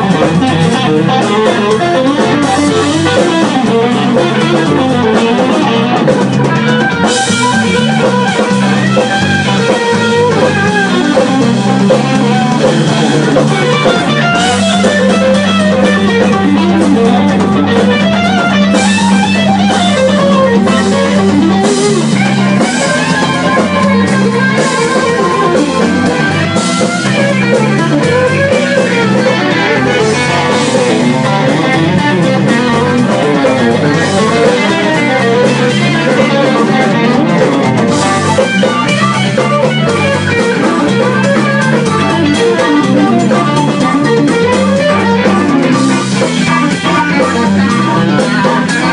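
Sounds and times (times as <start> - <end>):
bending electric guitar line: 0.0 - 48.9
blues band playing: 0.0 - 48.9.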